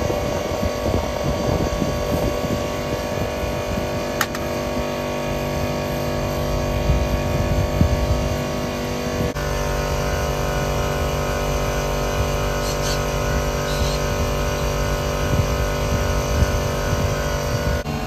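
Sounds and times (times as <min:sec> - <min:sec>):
air conditioner compressor hum: 0:00.0 - 0:18.0.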